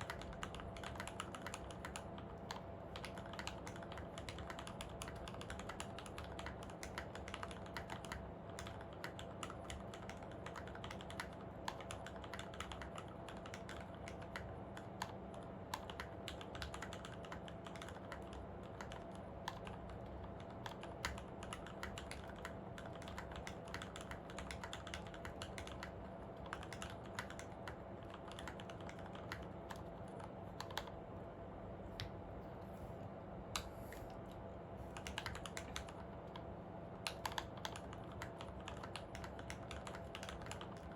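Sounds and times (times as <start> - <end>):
mechanical keyboard typing: 0.0 - 30.9, 34.9 - 36.4, 37.0 - 40.9
faint hum: 0.0 - 40.9.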